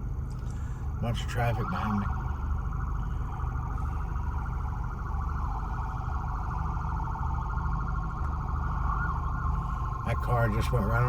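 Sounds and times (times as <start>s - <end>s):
car engine rumble: 0.0s - 11.0s
road noise: 0.0s - 11.0s
ambulance siren warbling: 0.8s - 11.0s.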